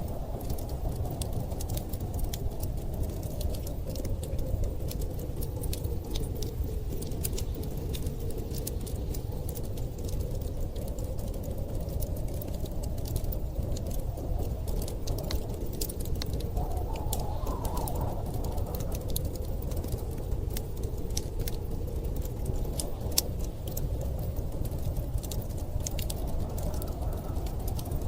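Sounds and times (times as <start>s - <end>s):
blizzard wind rumbling: 0.0s - 28.0s
wood fire crackling: 0.0s - 28.0s.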